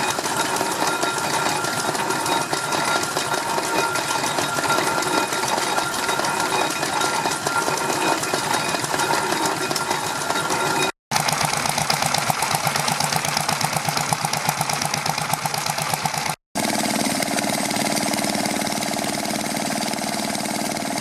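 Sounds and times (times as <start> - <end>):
stationary engine clattering: 0.0 - 21.0.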